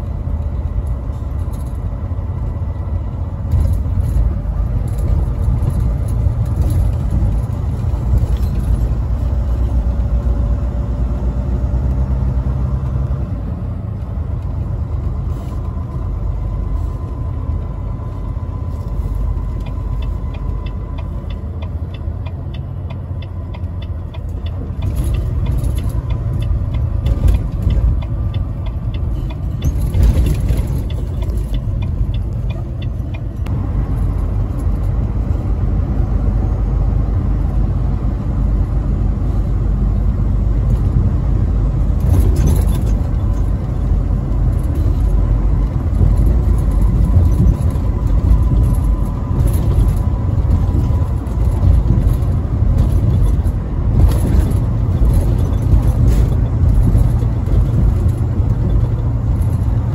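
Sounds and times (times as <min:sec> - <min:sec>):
truck engine and tyres rumbling: 0:00.0 - 0:59.9.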